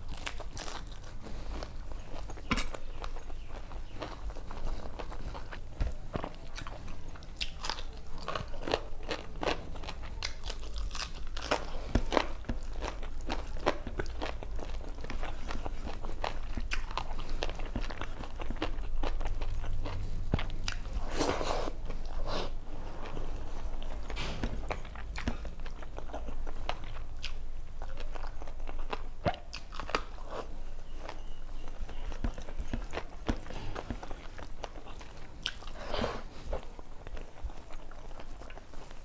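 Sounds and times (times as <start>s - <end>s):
person chewing and crunching: 0.0s - 39.0s.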